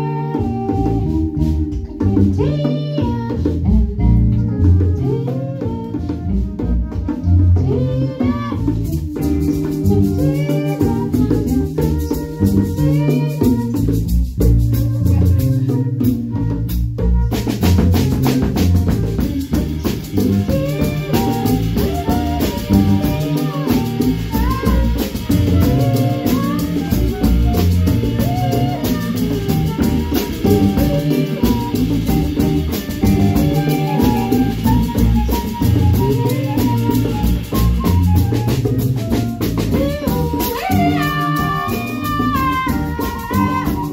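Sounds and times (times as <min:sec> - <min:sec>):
instrumental band music: 0:00.0 - 0:43.9.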